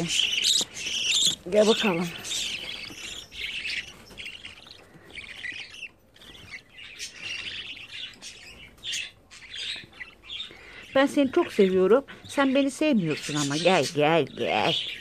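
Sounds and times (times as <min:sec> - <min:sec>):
budgerigar chicks chirping: 0:00.0 - 0:15.0.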